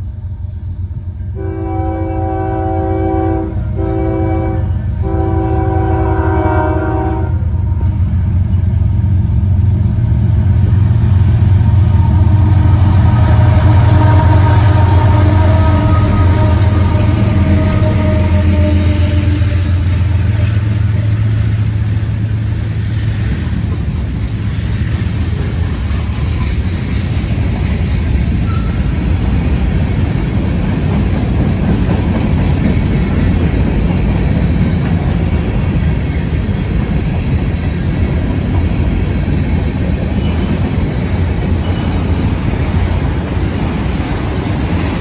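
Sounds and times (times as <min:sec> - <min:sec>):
diesel locomotive hum: 0:00.0 - 0:45.0
freight train wheels rumbling on rail: 0:00.0 - 0:45.0.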